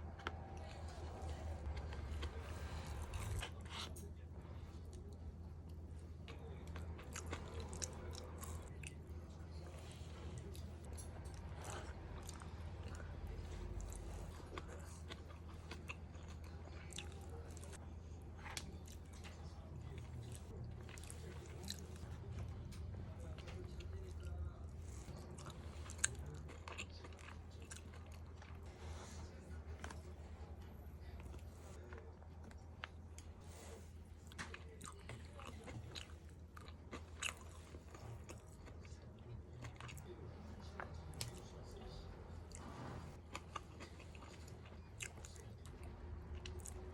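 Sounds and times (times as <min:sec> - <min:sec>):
steady low hum: 0:00.0 - 0:46.9
person chewing crunchy food: 0:06.3 - 0:17.8, 0:18.4 - 0:41.5, 0:42.5 - 0:46.9.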